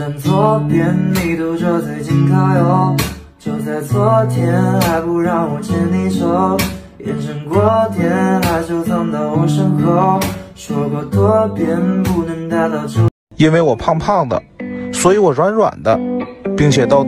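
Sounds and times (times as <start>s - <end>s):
acoustic guitar strumming: 0.0s - 13.1s, 13.8s - 17.0s.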